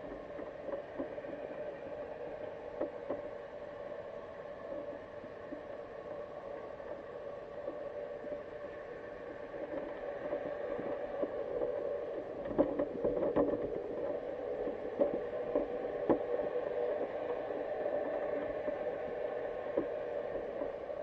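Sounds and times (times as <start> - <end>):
underwater hum: 0.0 - 21.0.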